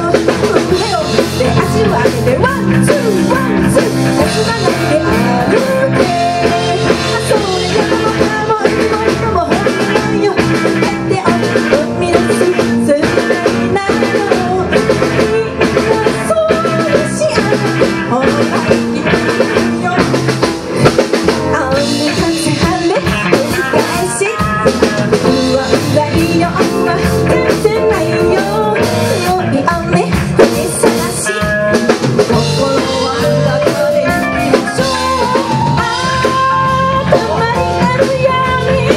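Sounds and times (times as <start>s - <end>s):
live rock band playing: 0.0s - 38.9s
woman singing into microphone: 0.0s - 38.9s.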